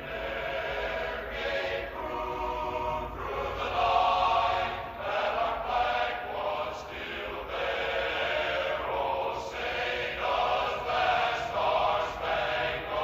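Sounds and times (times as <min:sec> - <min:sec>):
choir singing an anthem: 0:00.0 - 0:13.0.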